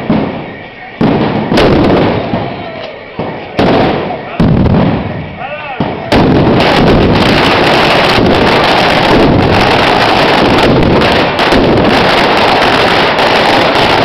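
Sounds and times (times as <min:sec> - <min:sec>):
firecrackers going off: 0:00.0 - 0:14.0.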